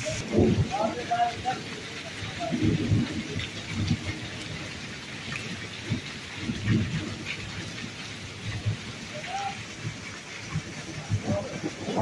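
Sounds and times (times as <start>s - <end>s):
heavy rain on pavement: 0.0s - 12.0s
low rumbles: 0.0s - 12.0s.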